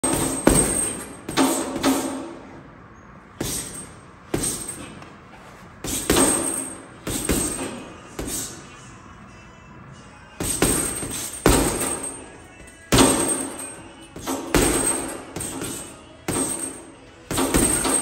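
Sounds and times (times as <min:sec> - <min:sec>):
boxing gloves hitting punching bag: 0:00.0 - 0:02.5, 0:03.4 - 0:05.2, 0:05.8 - 0:08.6, 0:10.4 - 0:18.0.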